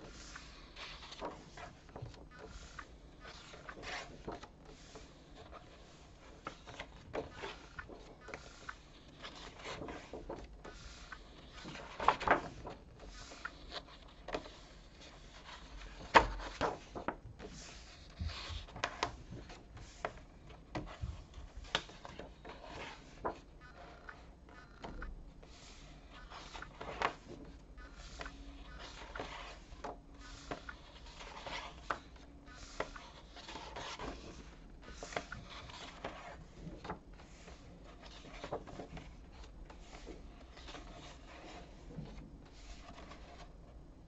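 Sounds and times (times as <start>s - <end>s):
thick paper pages turning: 0.0s - 43.7s.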